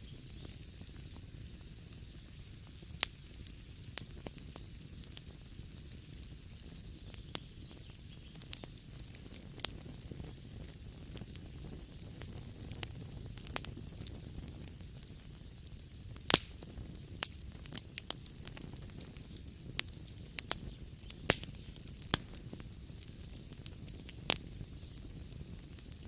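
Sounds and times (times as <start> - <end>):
loud snaps of fire: 0.0 - 26.0
wood fire crackling and popping: 0.0 - 26.0.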